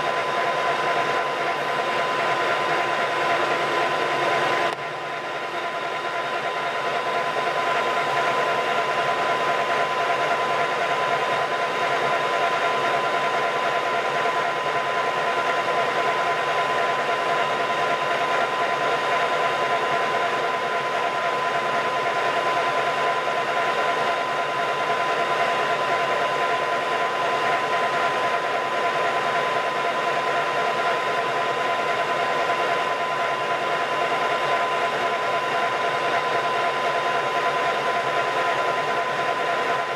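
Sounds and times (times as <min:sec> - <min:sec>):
lathe mechanical whine: 0:00.0 - 0:39.9.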